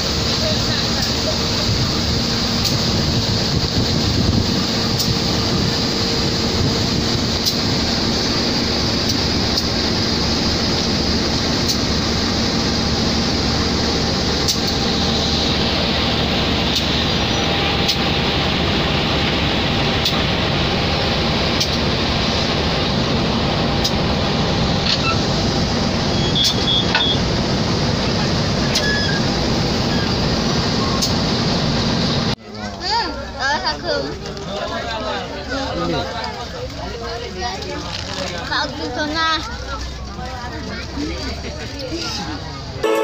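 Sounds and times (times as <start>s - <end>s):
diesel locomotive idling: 0.0s - 43.0s.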